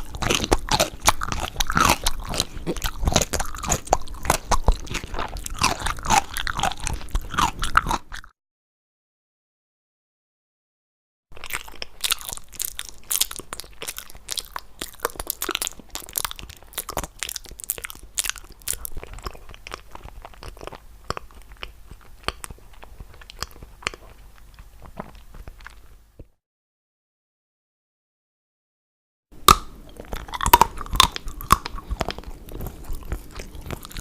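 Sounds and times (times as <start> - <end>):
crunching and chewing crisp food: 0.0 - 8.4, 11.3 - 26.3, 29.4 - 34.0.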